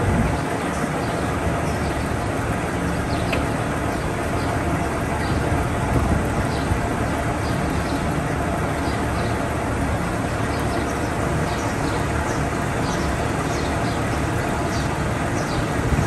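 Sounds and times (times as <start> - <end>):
ventilation fans droning: 0.0 - 16.0.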